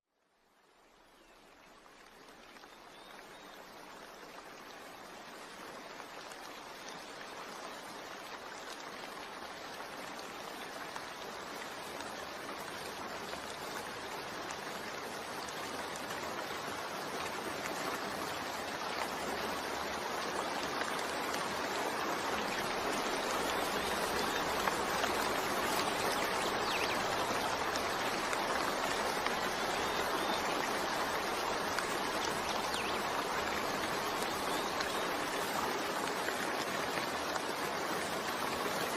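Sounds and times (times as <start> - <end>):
steady rain: 0.1 - 38.9.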